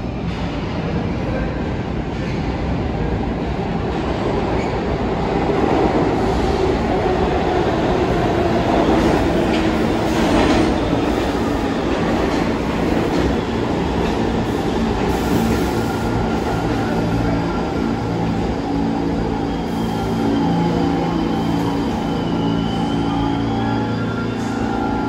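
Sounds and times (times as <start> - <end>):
subway train wheels on rail: 0.0 - 25.0.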